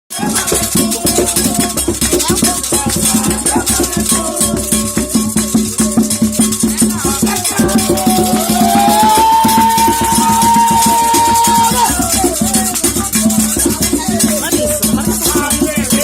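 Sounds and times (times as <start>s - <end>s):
hand drums beaten fast: 0.1s - 16.0s
shaken rattle: 0.2s - 16.0s.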